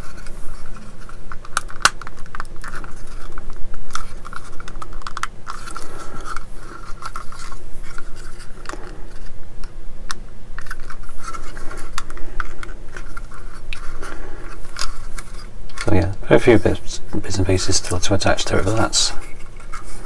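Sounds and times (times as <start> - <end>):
plastic parts clicking and scraping: 0.0 - 16.1, 17.9 - 20.0.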